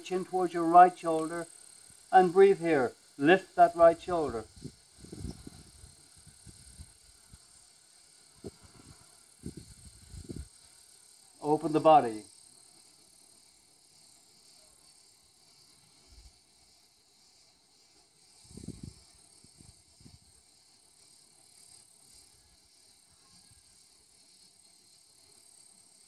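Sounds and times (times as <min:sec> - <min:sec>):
faint insect chirring: 0:00.0 - 0:26.0.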